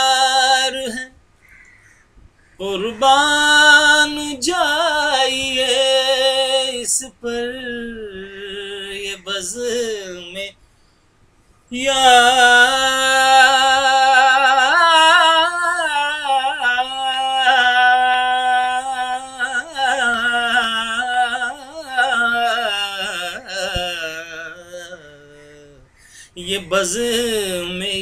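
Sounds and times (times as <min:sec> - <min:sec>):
man singing unaccompanied: 0:00.0 - 0:01.2, 0:02.6 - 0:10.6, 0:11.7 - 0:28.0.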